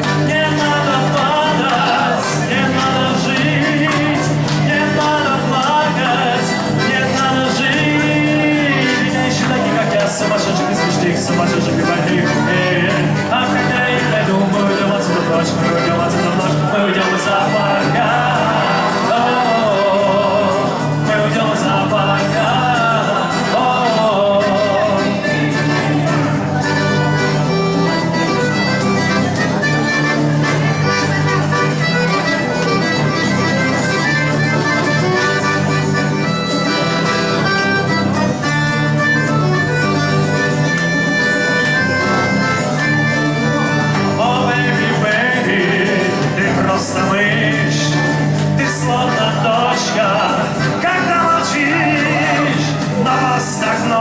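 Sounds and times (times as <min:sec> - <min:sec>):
pop band instrumental: 0:00.0 - 0:54.0.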